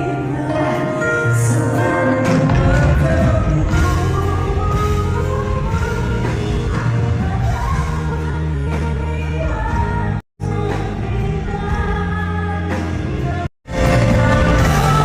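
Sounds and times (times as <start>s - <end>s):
live pop band: 0.0s - 15.0s
woman singing: 0.0s - 15.0s.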